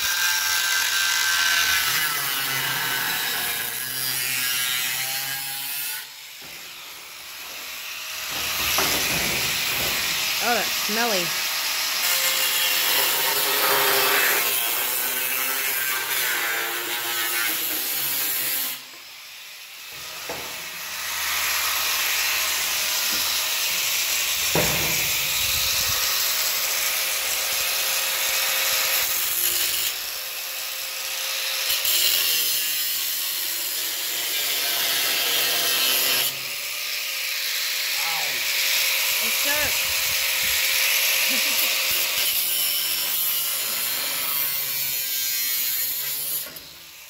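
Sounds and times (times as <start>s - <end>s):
angle grinder cutting steel: 0.0s - 47.0s.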